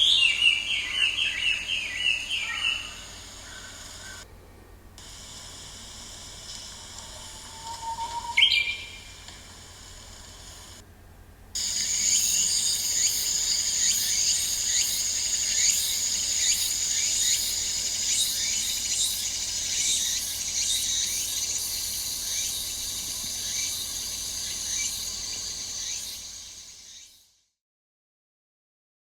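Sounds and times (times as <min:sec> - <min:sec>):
high-pitched insect chorus: 0:00.0 - 0:04.2, 0:06.2 - 0:10.8, 0:11.6 - 0:27.4.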